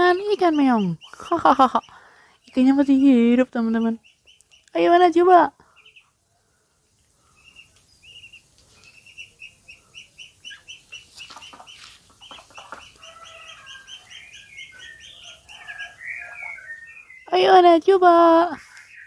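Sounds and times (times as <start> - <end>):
ducklings peeping: 0.0 - 6.2, 7.3 - 19.0.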